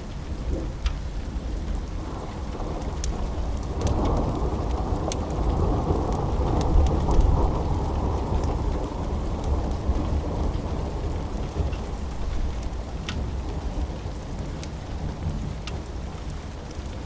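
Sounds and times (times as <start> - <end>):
steady rain: 0.0 - 17.0
rolling thunder: 0.4 - 17.0.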